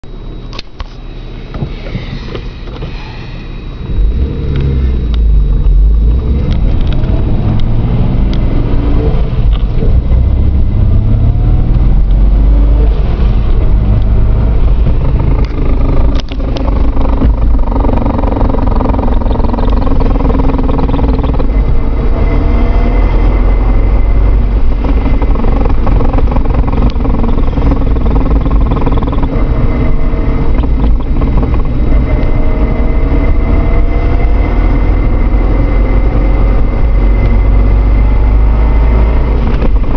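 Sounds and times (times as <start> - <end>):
vehicle low rumble: 0.0 - 39.9.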